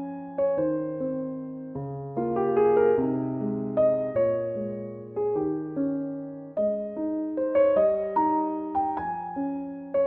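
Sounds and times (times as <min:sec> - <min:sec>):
soft piano piece: 0:00.0 - 0:10.0.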